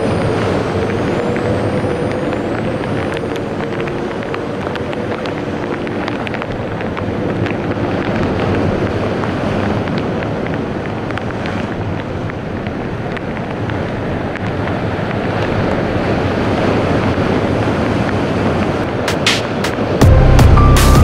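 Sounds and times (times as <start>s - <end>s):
heavy surf breaking on rocks: 0.0s - 21.0s
wind buffeting microphone: 0.0s - 21.0s.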